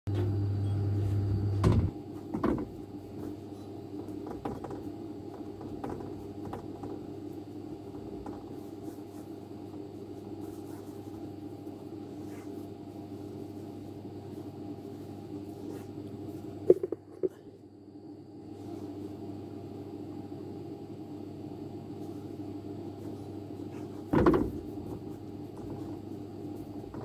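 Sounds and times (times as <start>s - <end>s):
electric equipment humming: 0.1s - 27.0s.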